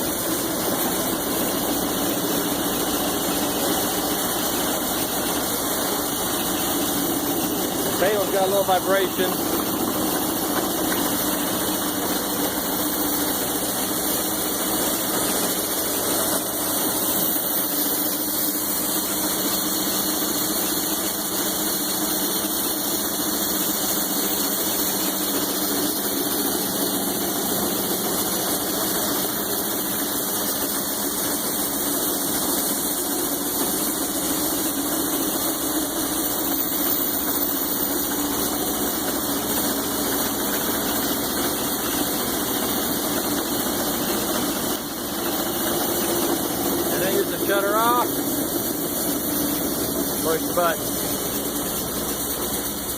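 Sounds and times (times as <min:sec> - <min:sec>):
band saw running: 0:00.0 - 0:52.9.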